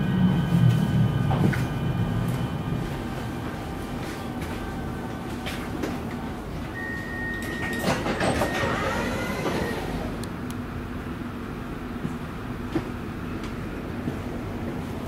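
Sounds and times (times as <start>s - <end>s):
train carriage rumble and rattle: 0.0s - 15.0s.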